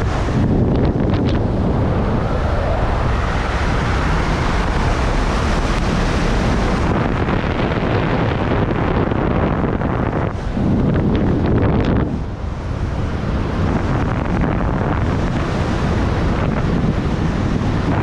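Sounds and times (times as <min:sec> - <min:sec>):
wind blasting microphone: 0:00.0 - 0:18.0.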